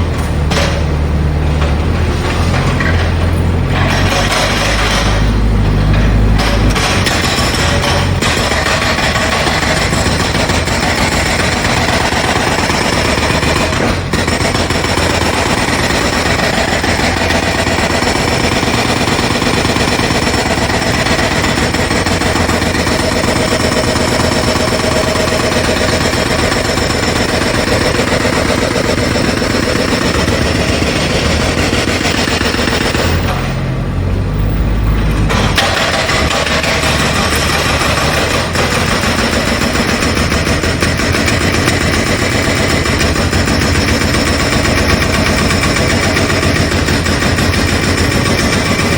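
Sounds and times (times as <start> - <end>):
jackhammer hammering: 2.5 - 33.7, 35.0 - 48.9.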